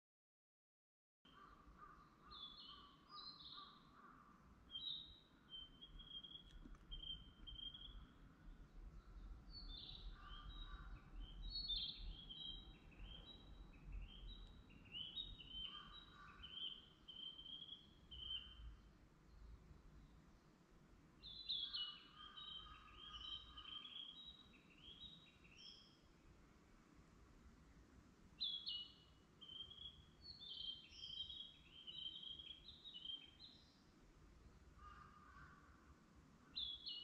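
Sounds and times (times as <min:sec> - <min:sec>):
songbirds chirping: 0:01.3 - 0:37.0.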